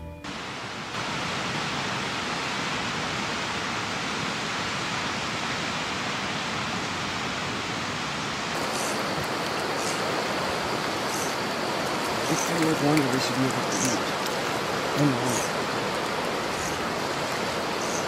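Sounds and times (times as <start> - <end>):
water rushing over rocks: 0.3 - 18.0.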